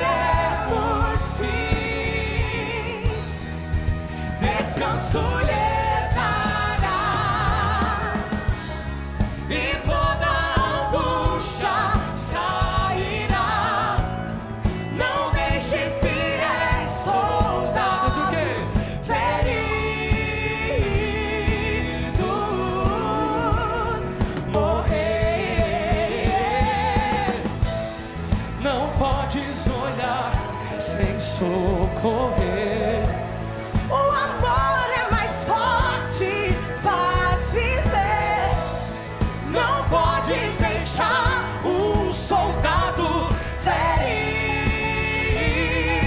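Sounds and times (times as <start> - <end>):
woman and man singing: 0.0 - 3.3, 4.2 - 8.6, 9.4 - 27.8, 28.6 - 46.0
live band playing: 0.0 - 46.0.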